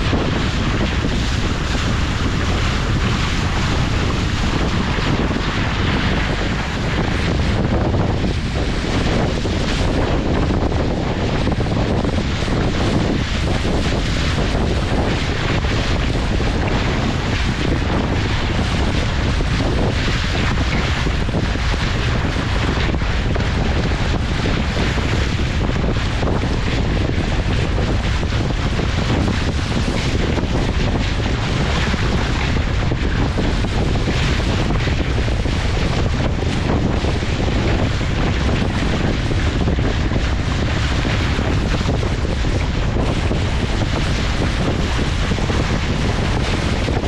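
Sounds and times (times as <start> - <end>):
rushing water: 0.0 - 47.0
wind buffeting microphone: 0.0 - 47.0.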